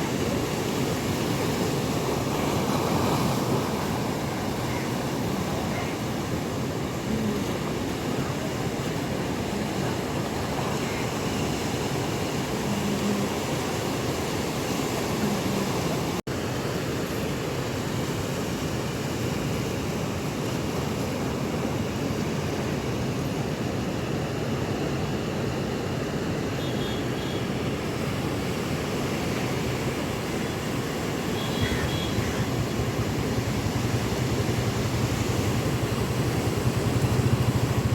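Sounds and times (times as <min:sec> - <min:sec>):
rough sea surf: 0:00.0 - 0:37.9
wind: 0:00.0 - 0:37.9.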